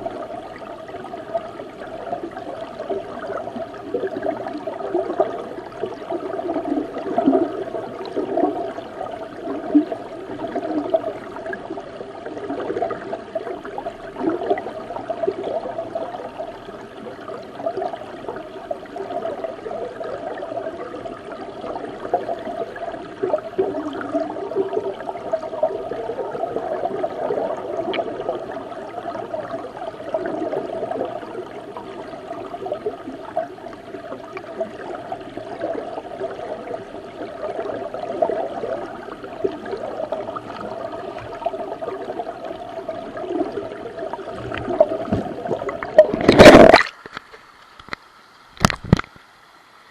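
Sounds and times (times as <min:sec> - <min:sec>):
muffled underwater river gurgling: 0:00.0 - 0:49.9.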